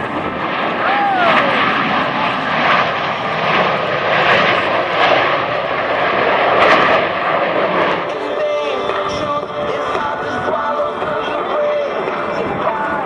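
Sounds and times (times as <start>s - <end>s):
jet noise in flight: 0.0s - 13.0s
jet whine falling in pitch: 0.0s - 13.0s.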